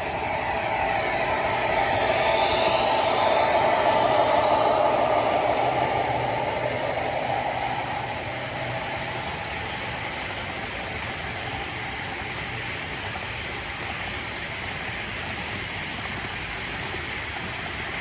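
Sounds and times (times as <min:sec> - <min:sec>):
model locomotive sound: 0:00.0 - 0:18.0
model train wheels rolling: 0:00.0 - 0:18.0.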